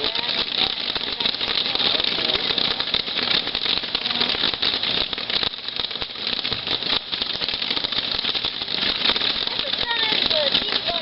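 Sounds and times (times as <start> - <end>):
firework crackling and sizzling: 0.0 - 11.0.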